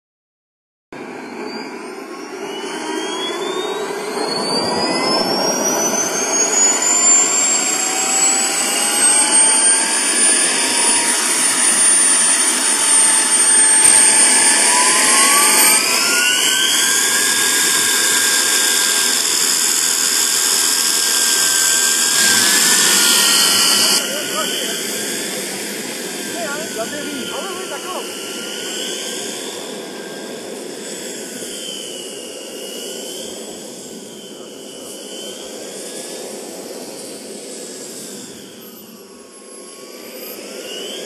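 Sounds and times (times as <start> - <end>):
turbine engine whine rising: 1.0 - 41.0.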